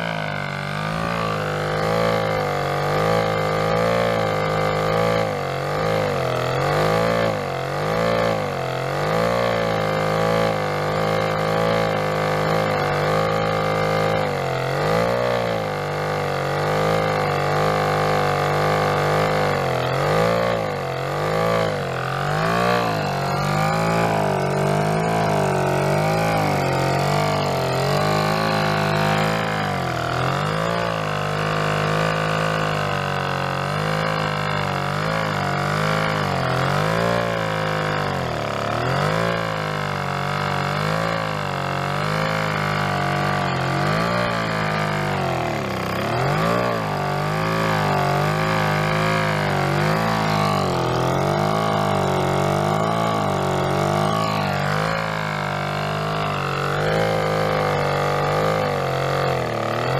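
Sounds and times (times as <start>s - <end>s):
small two-stroke engine running: 0.0s - 59.9s.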